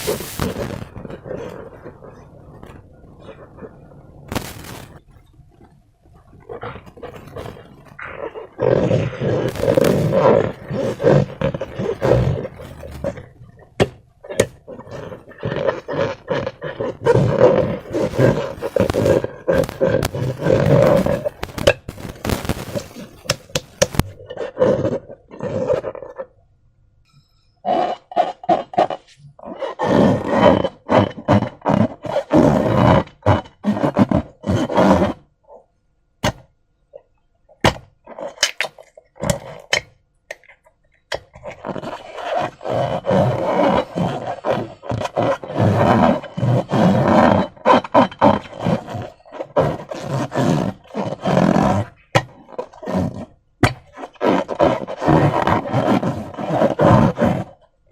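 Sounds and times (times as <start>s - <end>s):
slime squelching: 0.0s - 26.4s, 36.2s - 57.9s.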